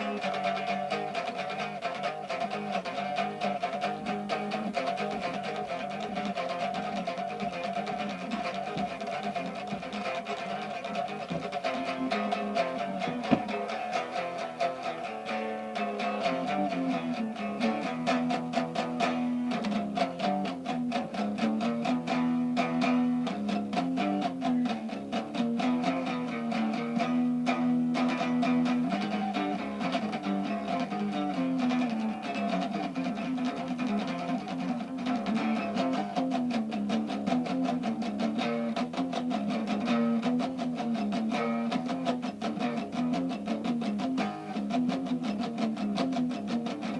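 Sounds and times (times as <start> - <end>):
plucked guitar notes: 0.0 - 46.9.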